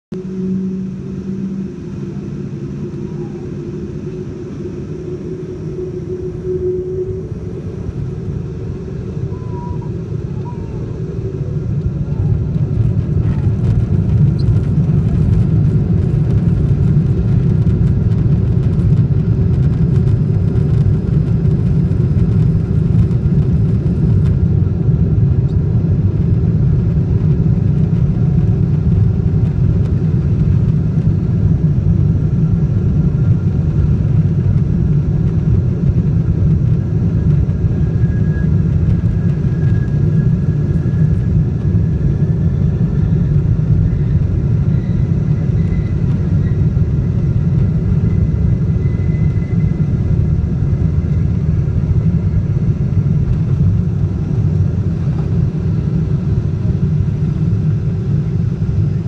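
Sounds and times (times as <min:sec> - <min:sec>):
engines and wheels rumbling on runway: 0:00.0 - 0:59.0
jet engine hum with whine: 0:00.1 - 0:59.0.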